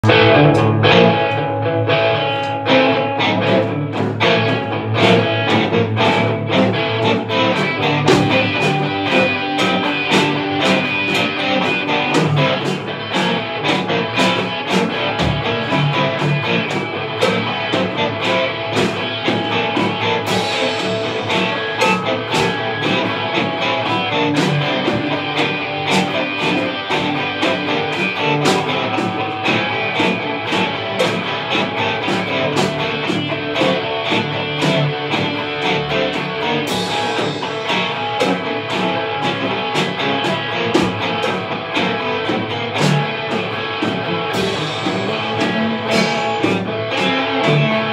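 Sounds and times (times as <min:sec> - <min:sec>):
drum kit steady beat: 0:00.0 - 0:47.9
electric guitars playing rock: 0:00.0 - 0:47.9.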